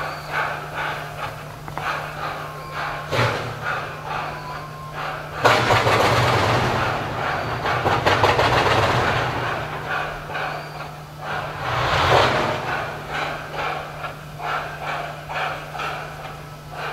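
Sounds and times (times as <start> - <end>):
steam locomotive exhaust chuffing: 0.0 - 16.9.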